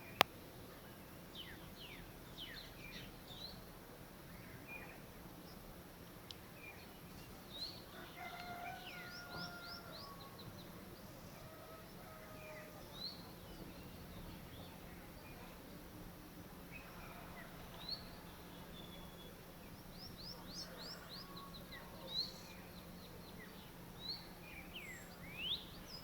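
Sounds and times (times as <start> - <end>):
background hiss: 0.0 - 26.0
songbirds singing: 0.0 - 26.0.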